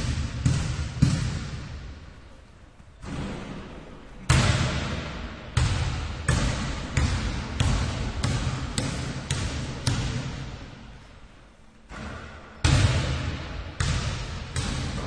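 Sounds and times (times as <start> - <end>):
basketball bouncing with echo: 0.0 - 2.2, 2.9 - 11.0, 11.9 - 15.0.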